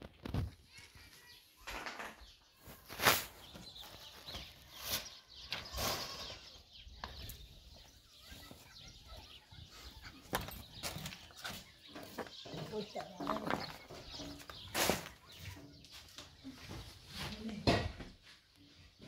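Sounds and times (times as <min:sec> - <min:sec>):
faint outdoor background: 0:00.0 - 0:19.0.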